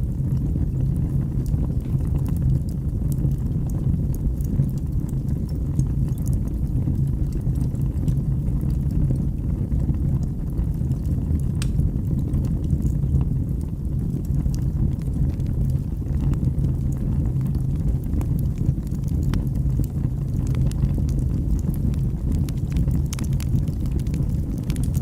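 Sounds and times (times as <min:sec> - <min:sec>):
fire crackling and popping: 0:00.0 - 0:25.0
fire rumbling in fireplace: 0:00.0 - 0:25.0.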